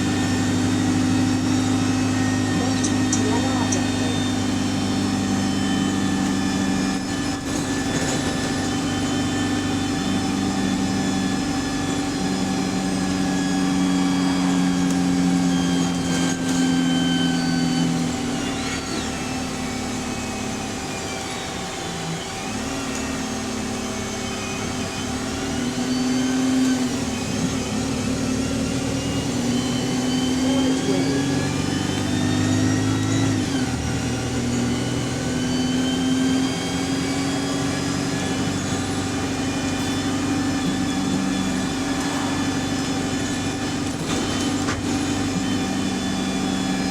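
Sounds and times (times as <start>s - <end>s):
bus engine and gearbox: 0.0s - 46.9s.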